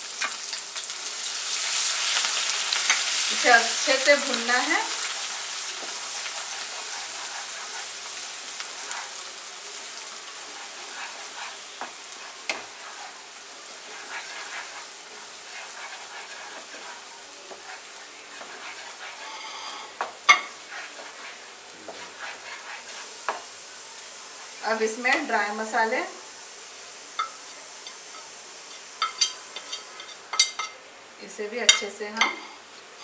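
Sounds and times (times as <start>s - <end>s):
paste sizzling in hot oil: 0.0s - 33.0s.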